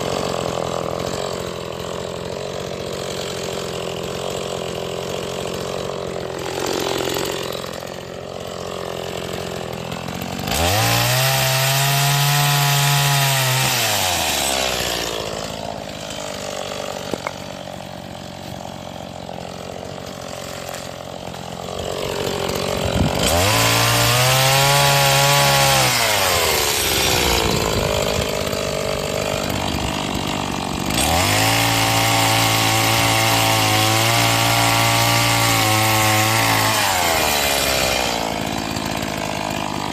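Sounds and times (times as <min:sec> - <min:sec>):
chainsaw cutting firewood: 0:00.0 - 0:39.9
chainsaw idling: 0:00.0 - 0:39.9.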